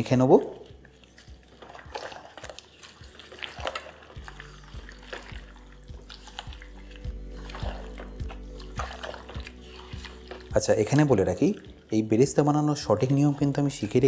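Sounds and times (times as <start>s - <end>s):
soft background music: 0.0s - 14.0s
wet squelching of raw chicken: 0.1s - 12.1s.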